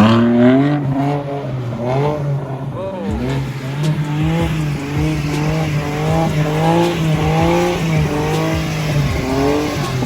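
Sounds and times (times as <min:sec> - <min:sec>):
car engine revving: 0:00.0 - 0:10.0
tyres spinning on ice: 0:01.4 - 0:10.0.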